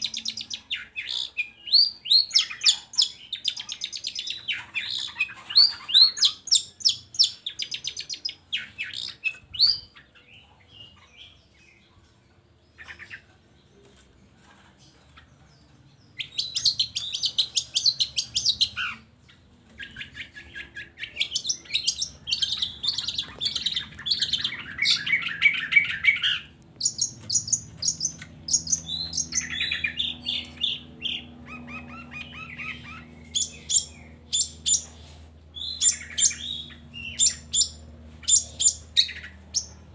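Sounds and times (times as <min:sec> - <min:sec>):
bird chattering song: 0:00.0 - 0:12.0, 0:14.9 - 0:39.9.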